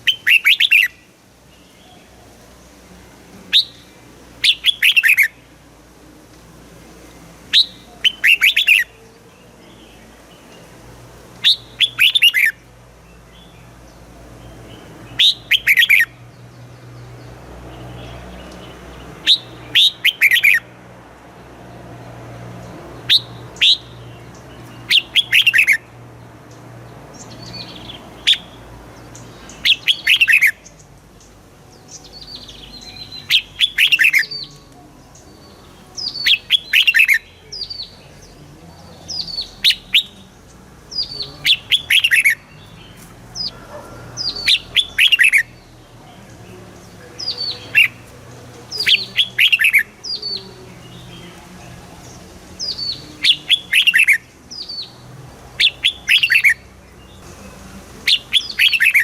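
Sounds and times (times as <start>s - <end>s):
bird singing quick phrases: 0.0s - 2.2s, 3.5s - 5.4s, 7.5s - 10.4s, 11.4s - 12.6s, 13.2s - 20.7s, 23.0s - 25.9s, 27.1s - 30.8s, 31.7s - 55.0s, 55.6s - 59.0s.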